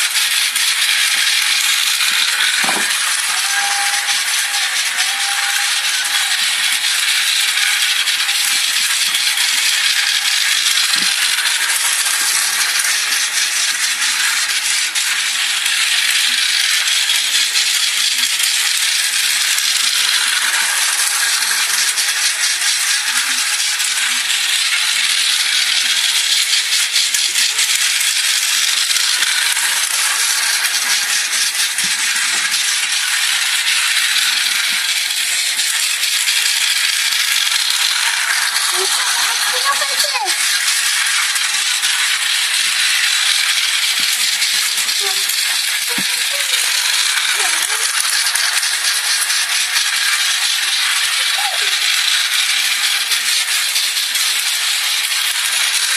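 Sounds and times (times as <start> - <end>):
train rattling and clattering: 0.0 - 55.9.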